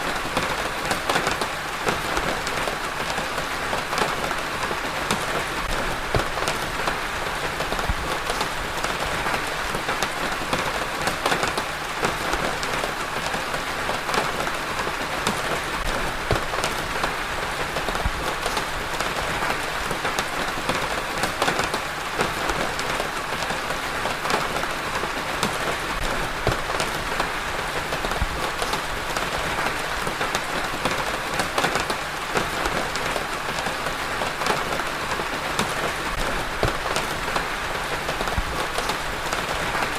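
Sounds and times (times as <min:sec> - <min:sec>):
raindrops pattering: 0:00.0 - 0:39.9
steady rain hiss: 0:00.0 - 0:39.9.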